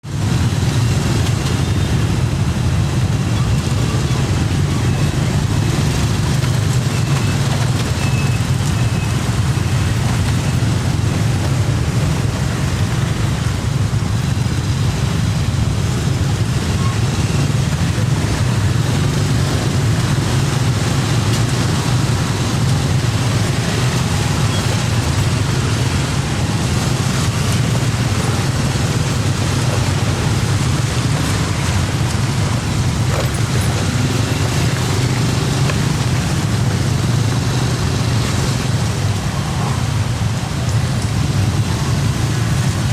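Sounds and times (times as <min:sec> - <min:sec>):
road traffic rumble and hiss: 0:00.0 - 0:42.9.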